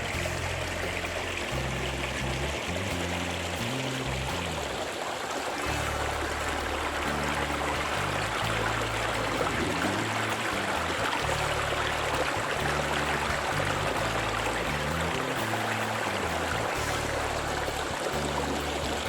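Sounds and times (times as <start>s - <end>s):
soft low music notes: 0.0s - 5.0s, 5.6s - 19.0s
stream rushing: 0.0s - 19.0s.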